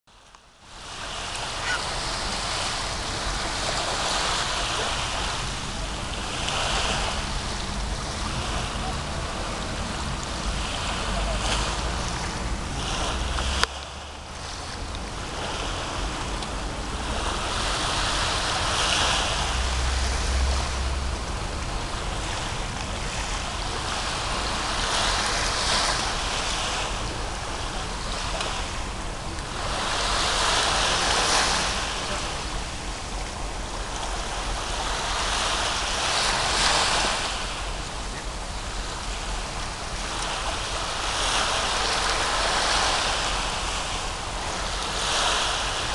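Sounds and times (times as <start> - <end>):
small waves washing onto shore: 0.1 - 45.9
wind rumble on microphone: 0.1 - 45.9.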